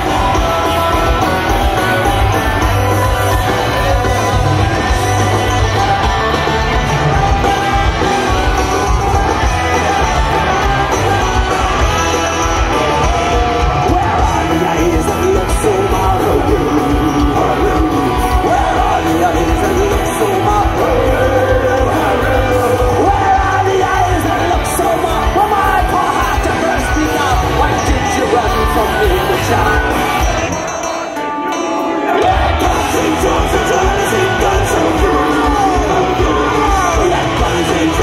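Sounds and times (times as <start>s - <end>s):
person singing: 0.0s - 38.0s
punk rock band playing live: 0.0s - 38.0s.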